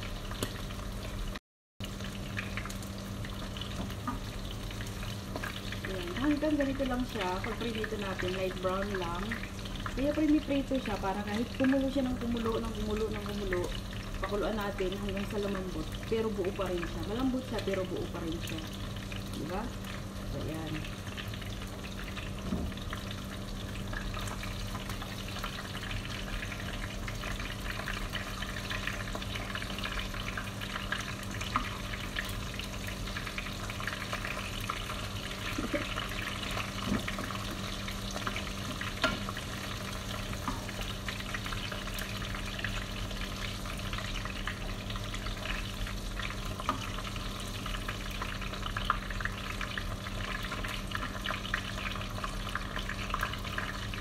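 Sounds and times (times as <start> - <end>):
meat sizzling in oil: 0.0 - 54.0.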